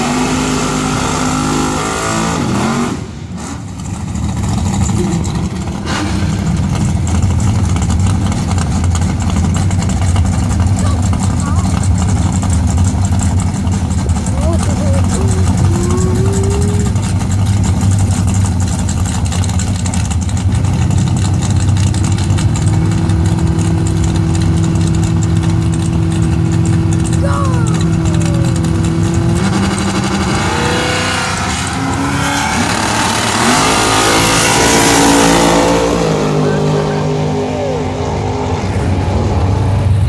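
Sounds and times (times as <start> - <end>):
drag racing car engines revving: 0.0 - 40.0.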